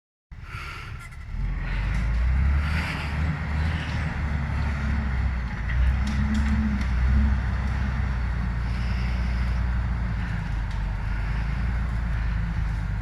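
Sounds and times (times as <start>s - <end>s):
vehicle engine rumble: 0.3s - 13.0s.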